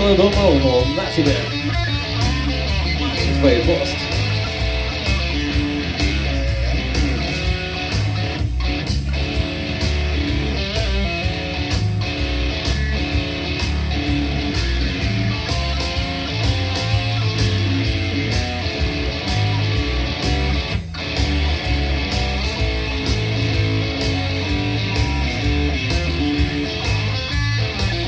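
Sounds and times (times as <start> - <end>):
live punk blues band: 0.0 - 28.0
strummed electric guitar: 0.0 - 28.0.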